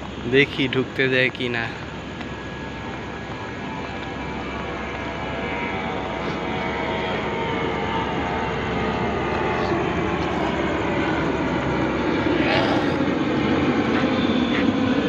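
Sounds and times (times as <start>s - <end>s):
diesel train engine drone: 0.0s - 15.0s
high engine whine: 0.0s - 15.0s.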